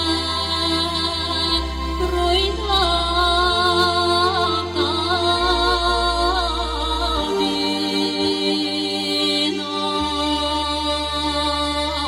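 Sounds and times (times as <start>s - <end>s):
woman singing folk song: 0.0s - 12.0s.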